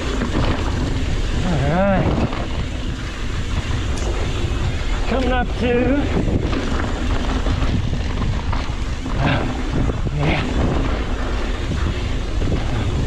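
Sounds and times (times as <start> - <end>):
bike tyres rolling on dirt: 0.0 - 13.0
wind buffeting microphone: 0.0 - 13.0.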